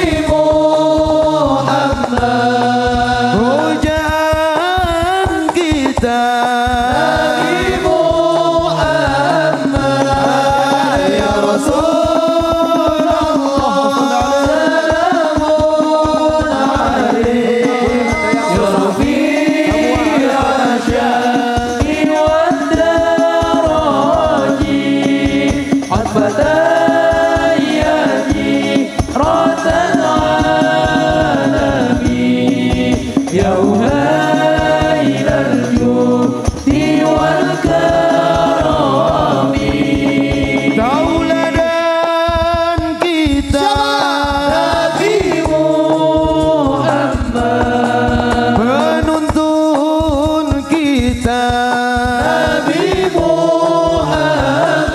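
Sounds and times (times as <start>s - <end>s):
men singing into microphones: 0.0s - 54.9s
steady drum beat: 0.0s - 54.9s.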